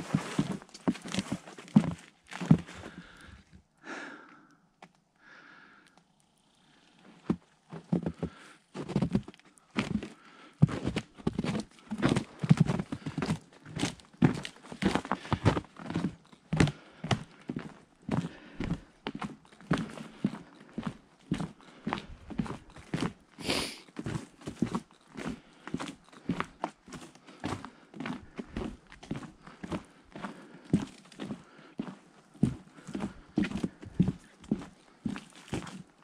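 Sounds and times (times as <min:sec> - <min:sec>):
boots crunching in snow: 0:00.0 - 0:03.1, 0:07.3 - 0:35.9.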